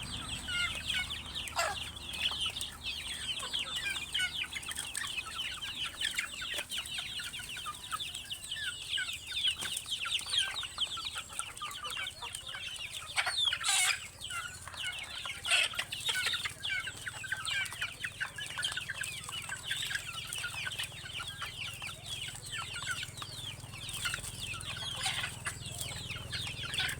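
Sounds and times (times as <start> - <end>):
chickens clucking and peeping: 0.0 - 26.9.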